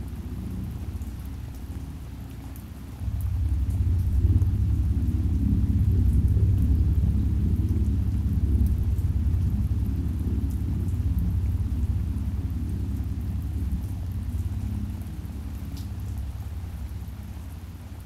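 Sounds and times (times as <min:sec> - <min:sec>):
faint crackle of rain: 0:00.0 - 0:18.0
deep low synth chord: 0:03.0 - 0:18.0.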